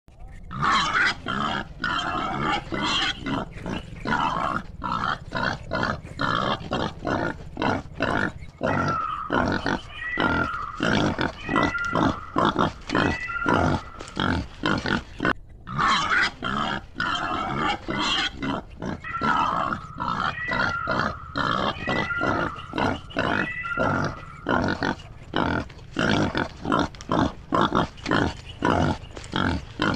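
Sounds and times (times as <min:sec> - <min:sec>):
pigs grunting: 0:00.1 - 0:29.9
pigs squealing: 0:00.1 - 0:29.9.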